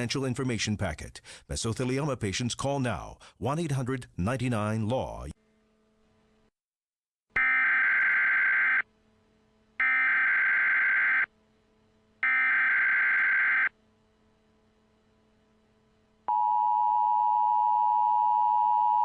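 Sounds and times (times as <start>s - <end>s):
faint steady hum: 0.0s - 6.5s, 7.3s - 19.0s.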